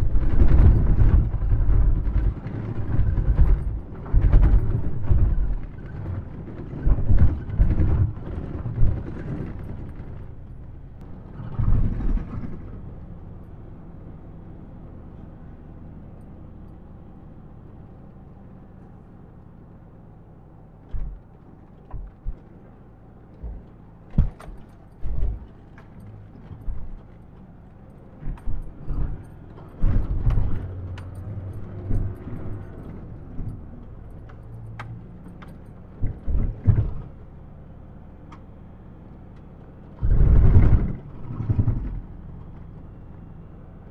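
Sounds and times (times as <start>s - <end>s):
knocks and rattles over bumps: 0.0s - 14.6s, 18.0s - 43.9s.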